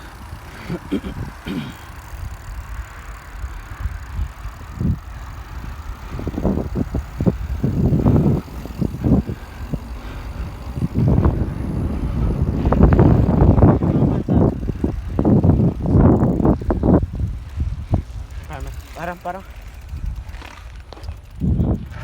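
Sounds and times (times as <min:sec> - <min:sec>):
bicycle rattling: 0:00.0 - 0:22.0
wind buffeting microphone: 0:00.0 - 0:22.0.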